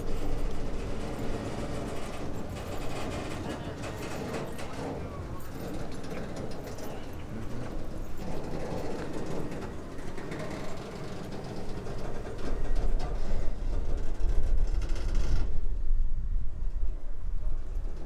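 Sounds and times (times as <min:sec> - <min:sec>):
train wheels rolling and creaking: 0:00.0 - 0:18.0.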